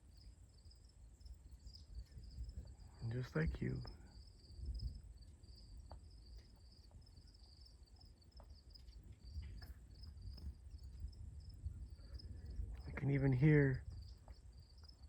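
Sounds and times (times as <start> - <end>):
faint crickets chirping: 0.0 - 15.0.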